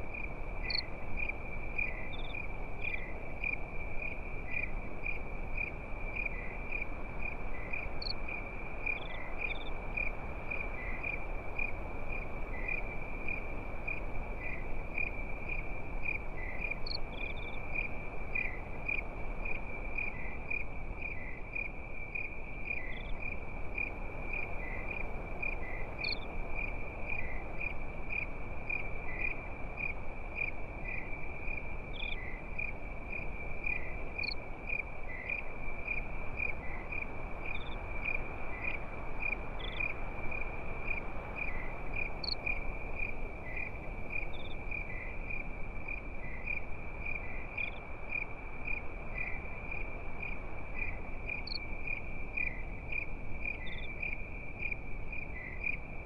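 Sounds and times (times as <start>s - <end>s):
crickets chirping: 0.0s - 56.0s
low even hiss: 0.0s - 56.0s.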